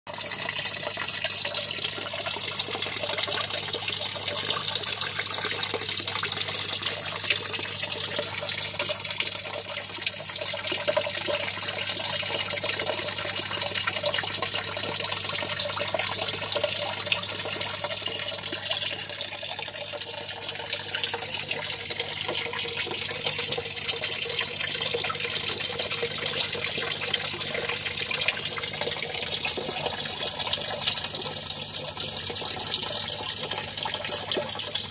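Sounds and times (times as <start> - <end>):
low steady pump hum: 0.1 - 34.9
water splashing in fish tank: 0.1 - 34.9.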